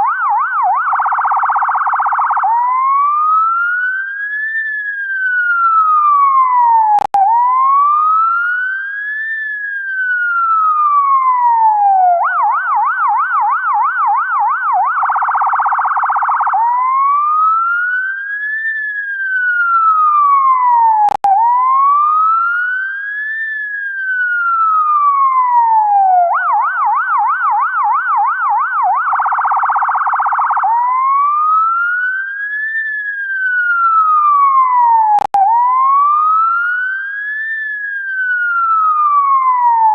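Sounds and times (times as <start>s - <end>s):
ambulance siren wail yelp and warble: 0.0s - 39.9s.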